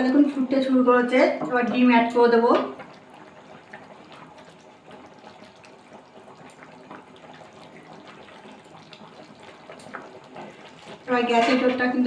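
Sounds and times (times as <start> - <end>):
water bubbling with small pops: 1.3 - 11.9.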